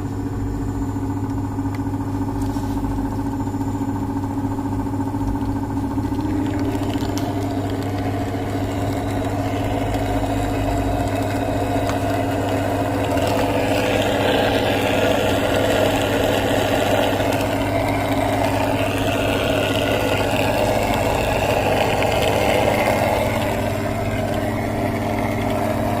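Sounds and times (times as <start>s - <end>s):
drain pump humming: 0.0s - 26.0s.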